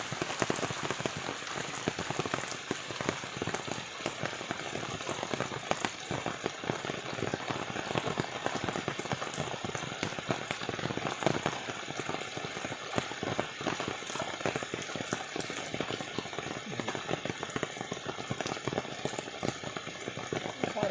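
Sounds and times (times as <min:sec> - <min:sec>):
rain falling steadily: 0:00.0 - 0:20.9.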